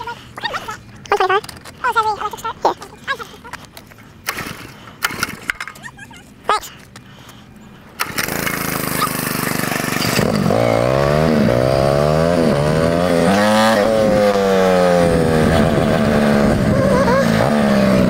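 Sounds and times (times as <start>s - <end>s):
mini bike engine running: 0.0s - 7.0s, 7.9s - 18.0s.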